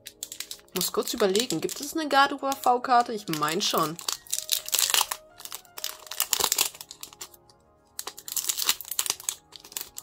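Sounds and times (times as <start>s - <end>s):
foil wrapper crinkling and tearing: 0.0s - 10.0s
quiet background music: 0.0s - 10.0s.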